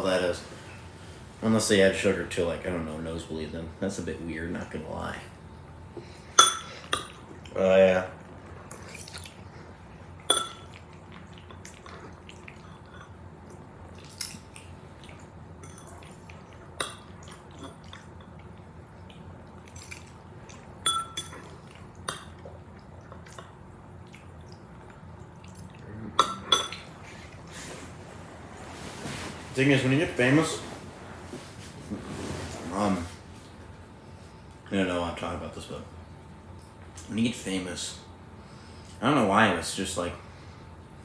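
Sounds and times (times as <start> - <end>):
faint room hum: 0.0 - 41.0.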